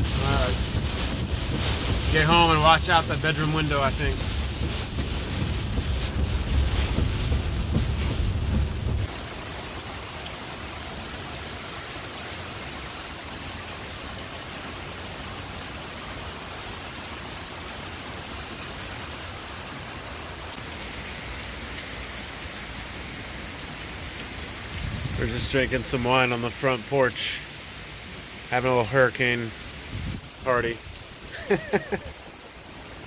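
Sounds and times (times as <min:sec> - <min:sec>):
car driving through rain: 0:00.0 - 0:33.0
heavy rain falling: 0:00.0 - 0:33.0.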